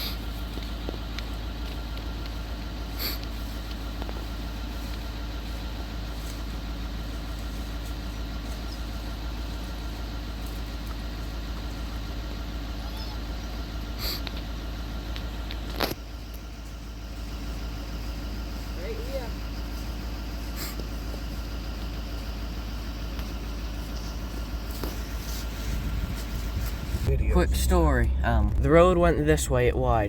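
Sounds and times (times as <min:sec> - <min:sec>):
car engine rumble: 0:00.0 - 0:30.0.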